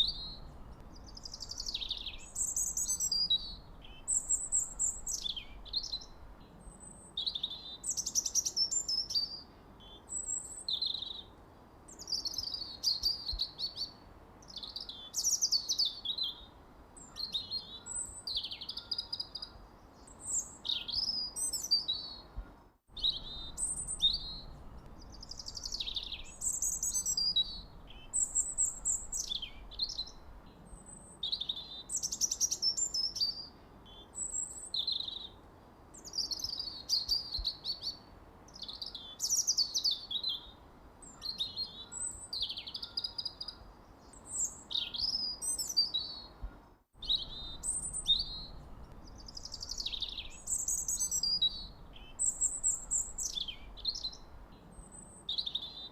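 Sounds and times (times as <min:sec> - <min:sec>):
faint background hiss: 0:00.0 - 0:55.9
songbirds chirping: 0:00.0 - 0:55.9.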